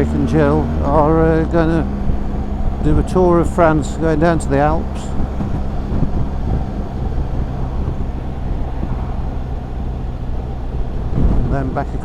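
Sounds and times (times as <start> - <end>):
motorcycle engine hum: 0.0 - 12.0
wind and road noise: 0.0 - 12.0.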